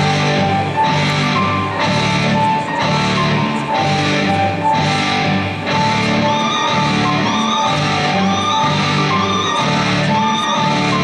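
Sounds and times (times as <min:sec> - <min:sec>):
instrumental music over loudspeakers: 0:00.0 - 0:11.0.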